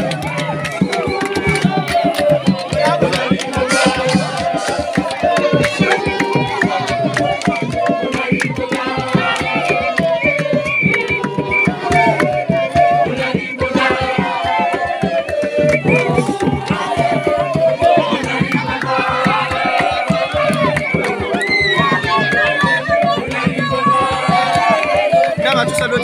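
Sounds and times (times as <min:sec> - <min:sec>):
drums beating fast rhythm: 0:00.0 - 0:26.0
voices singing: 0:00.0 - 0:26.0.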